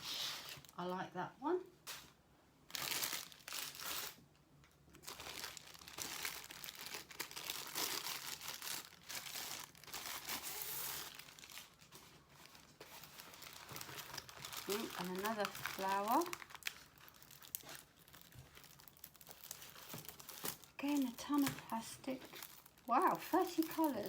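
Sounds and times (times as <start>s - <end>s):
plastic packaging crinkling: 2.7s - 24.0s.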